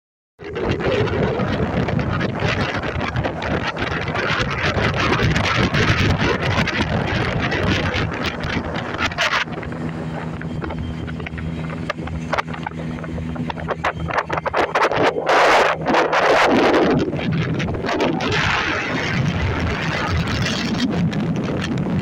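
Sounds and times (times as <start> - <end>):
wind buffeting microphone: 0.4 - 22.0.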